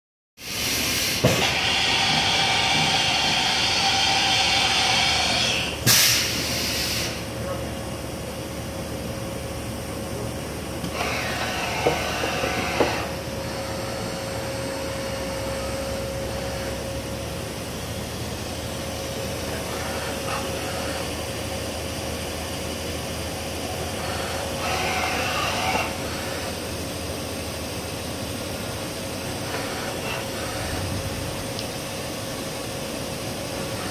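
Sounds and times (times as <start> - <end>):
machining center running: 0.6 - 33.9.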